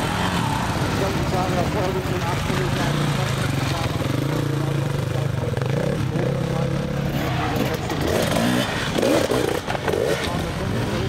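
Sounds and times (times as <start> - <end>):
dirt bike engine passing by: 0.0 - 11.0.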